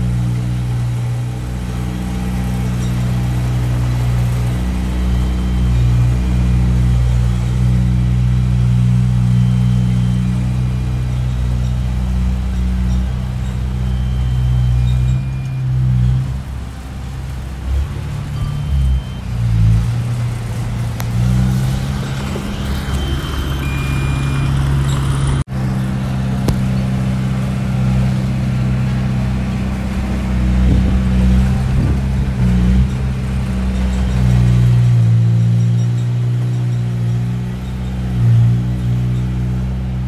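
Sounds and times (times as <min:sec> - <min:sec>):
bulldozer diesel engine under load: 0:00.0 - 0:40.0.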